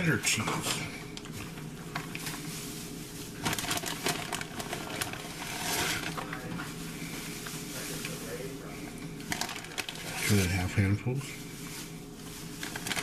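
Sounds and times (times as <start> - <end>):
light clicks and crinkles of foil: 0.3 - 13.0
cheese sprinkled rustling: 1.0 - 13.0.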